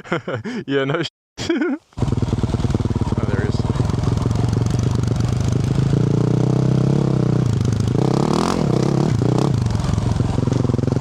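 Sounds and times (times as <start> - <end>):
motorcycle engine revving: 2.0 - 11.0.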